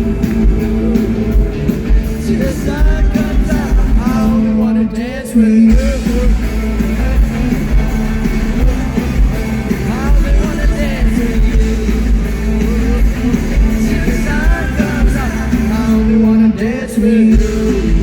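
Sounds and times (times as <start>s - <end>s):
live rock band playing: 0.0s - 18.0s
person singing: 0.0s - 18.0s.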